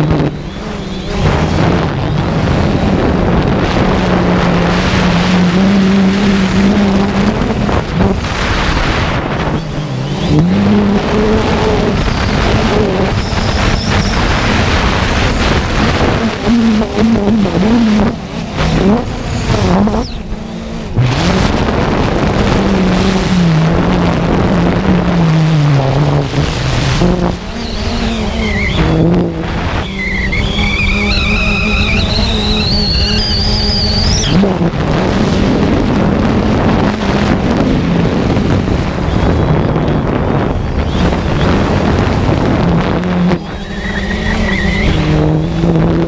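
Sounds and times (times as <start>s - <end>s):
radio-controlled aircraft motor buzzing: 0.0s - 23.4s, 26.4s - 46.0s
high whine climbing: 0.0s - 46.0s.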